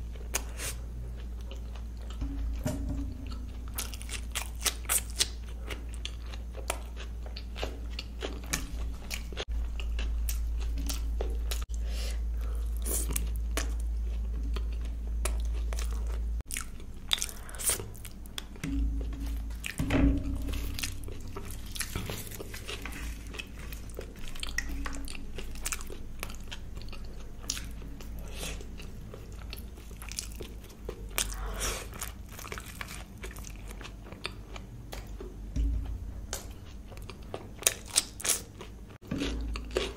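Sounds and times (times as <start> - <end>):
low steady hum: 0.0 - 39.9
person chewing and biting: 0.1 - 39.9.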